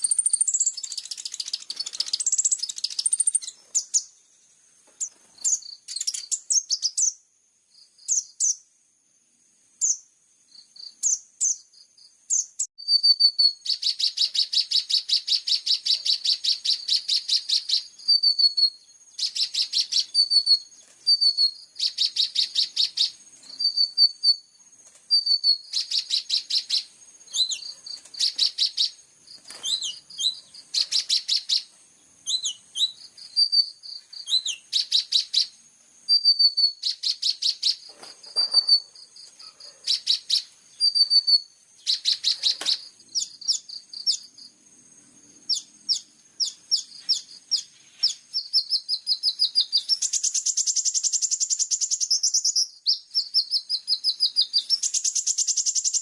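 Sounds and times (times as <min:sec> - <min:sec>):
fast buzzing bird trill: 0:00.0 - 0:04.2, 0:05.0 - 0:07.2, 0:08.0 - 0:08.6, 0:09.8 - 0:24.5, 0:25.1 - 0:44.6, 0:45.4 - 0:56.0
songbird chirps and trills: 0:00.0 - 0:56.0.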